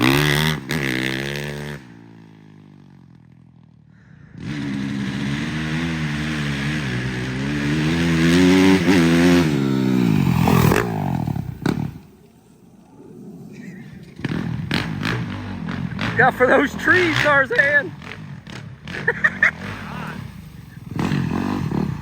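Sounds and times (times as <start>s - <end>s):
dirt bike engine revving: 0.0s - 2.8s, 4.0s - 22.0s.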